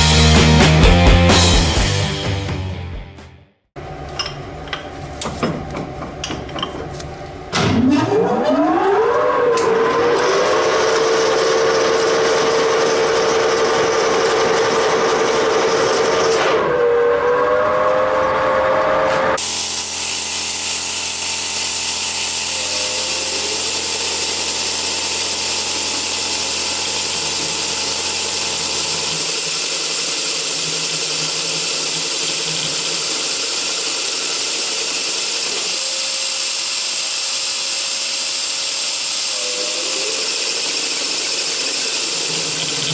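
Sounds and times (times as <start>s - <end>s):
milling machine whine: 5.7s - 42.9s.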